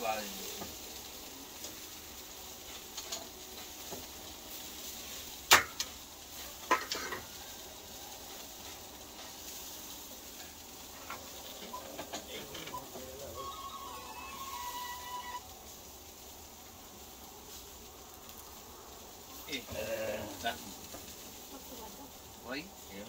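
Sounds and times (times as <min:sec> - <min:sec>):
food sizzling on a barbecue: 0:00.0 - 0:23.0.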